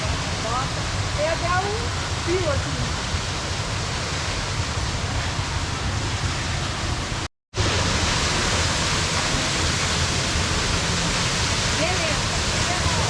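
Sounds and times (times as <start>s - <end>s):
waterfall roar: 0.0s - 13.0s.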